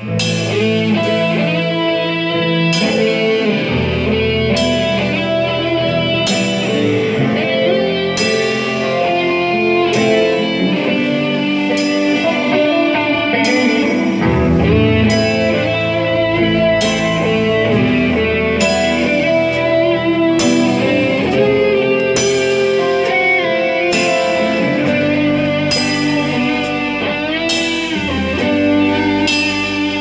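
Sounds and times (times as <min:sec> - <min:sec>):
electric guitar band music: 0:00.0 - 0:30.0.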